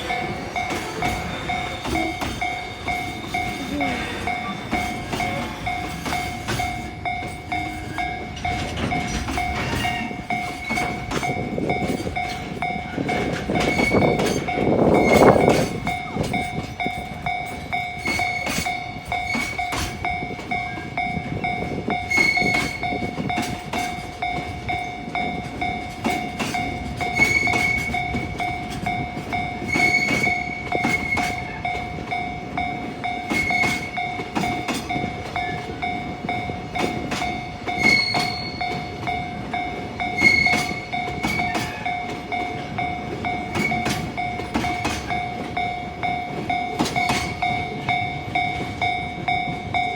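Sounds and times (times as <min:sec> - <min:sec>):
freight train rumbling past: 0:00.0 - 0:49.9
level crossing alarm ringing: 0:00.0 - 0:49.9
wheels clicking over rail joints: 0:00.0 - 0:49.9.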